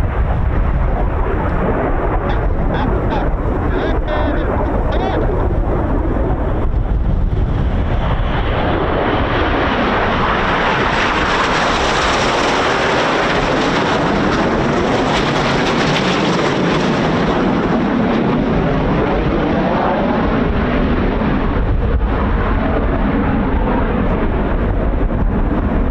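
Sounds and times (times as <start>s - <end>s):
jets passing with roar: 0.0s - 25.9s
wind buffeting microphone: 0.0s - 25.9s.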